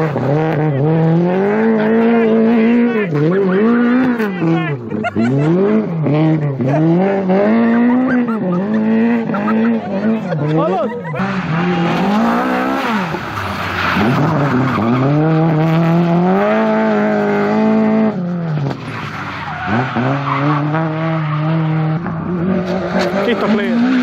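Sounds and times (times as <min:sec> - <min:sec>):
car engine revving hard: 0:00.0 - 0:24.0
tyres skidding: 0:00.0 - 0:24.0.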